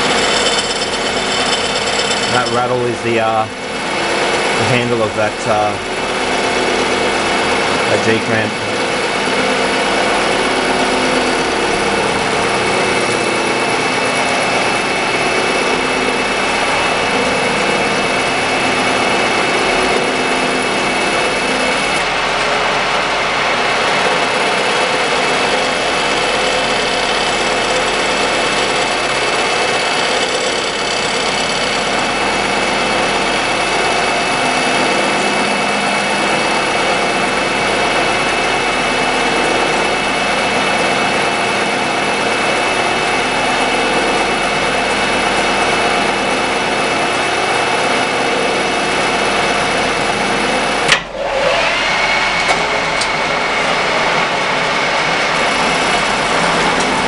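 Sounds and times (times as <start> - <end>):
machine high whine: 0.0 - 57.0
milling machine cutting steel: 0.0 - 57.0.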